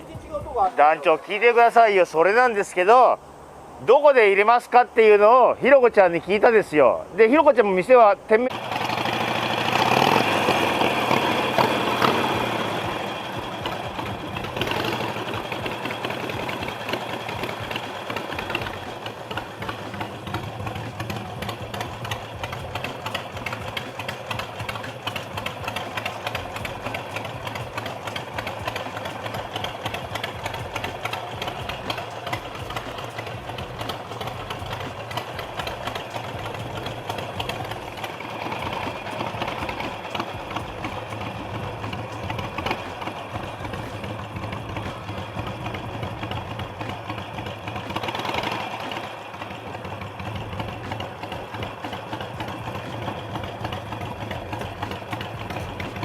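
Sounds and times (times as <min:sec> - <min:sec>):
motorcycle engine idling: 0:00.0 - 0:03.7, 0:08.5 - 0:56.0.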